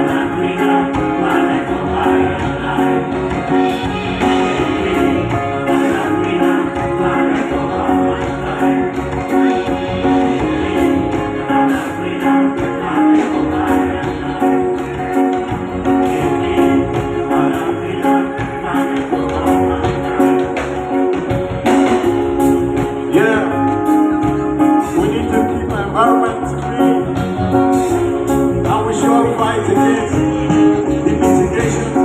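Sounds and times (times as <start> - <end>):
live band music: 0.0 - 32.0
person singing: 0.0 - 32.0.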